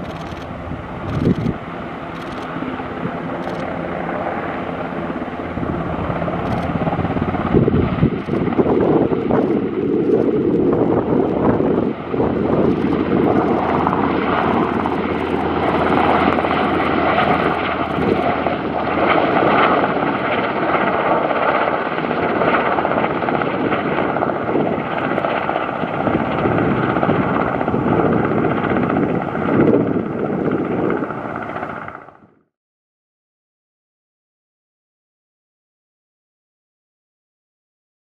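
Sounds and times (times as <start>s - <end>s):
high turbine whine: 0.0s - 32.1s
helicopter taking off: 0.0s - 32.5s.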